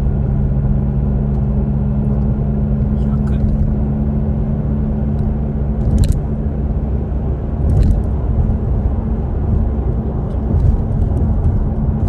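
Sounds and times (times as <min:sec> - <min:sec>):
car rumble on the move: 0:00.0 - 0:12.0.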